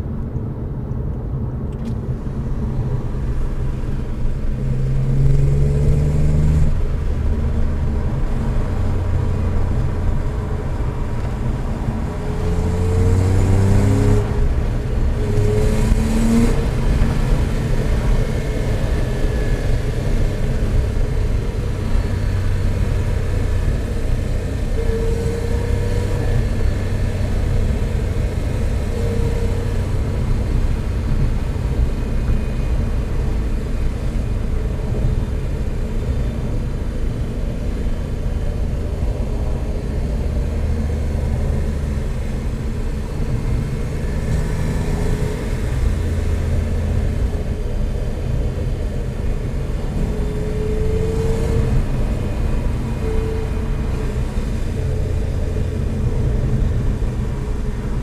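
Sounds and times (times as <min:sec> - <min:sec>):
car engine drone: 0:00.0 - 0:58.0
tyre and road noise: 0:00.0 - 0:58.0.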